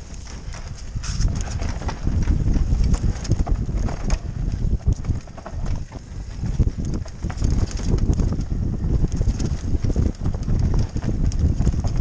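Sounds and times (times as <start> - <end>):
bike clattering and rattling: 0.0 - 12.0
tyres rumbling over dirt: 0.0 - 12.0.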